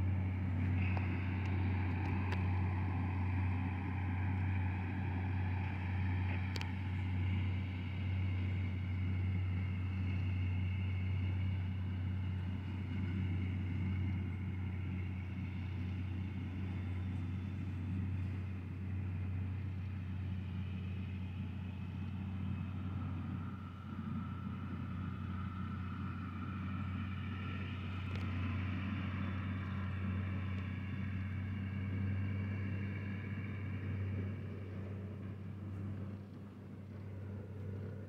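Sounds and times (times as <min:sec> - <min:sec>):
tractor engine hum: 0:00.0 - 0:38.0.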